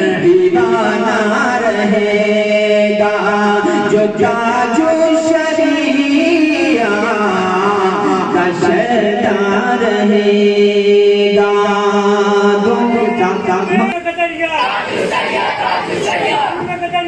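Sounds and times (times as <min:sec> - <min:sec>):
man singing unaccompanied: 0:00.0 - 0:14.8.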